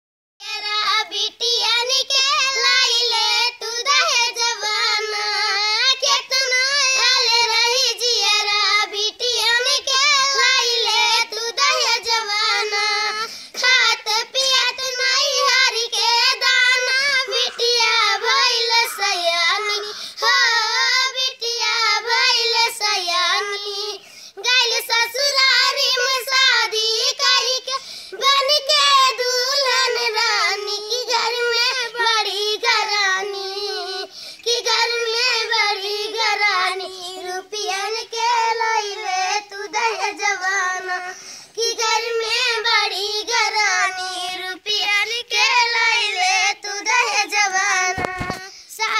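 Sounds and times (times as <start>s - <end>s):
children singing: 0.4s - 48.9s.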